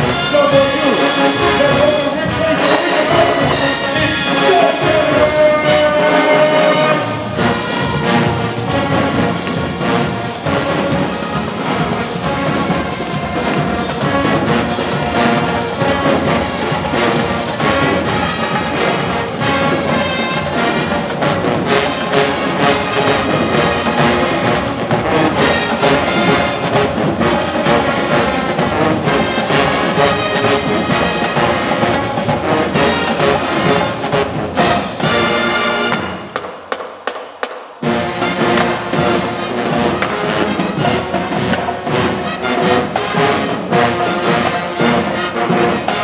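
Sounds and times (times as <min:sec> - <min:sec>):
drumline drum strokes: 0:00.0 - 0:46.0
marching band brass music: 0:00.0 - 0:46.0.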